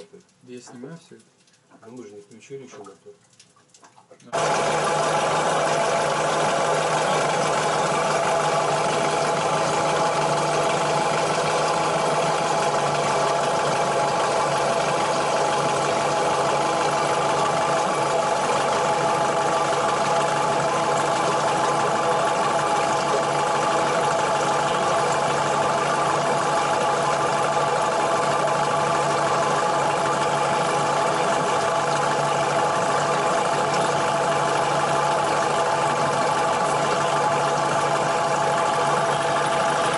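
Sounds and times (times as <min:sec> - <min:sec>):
diesel engine idling: 0:04.4 - 0:39.9.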